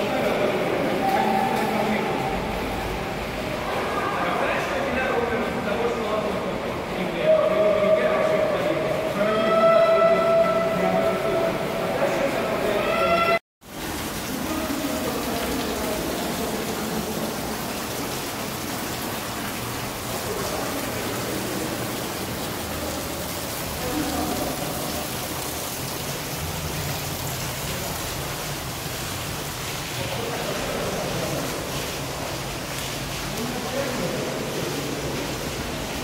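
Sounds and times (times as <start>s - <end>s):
water rushing through tunnel: 0.0s - 36.0s.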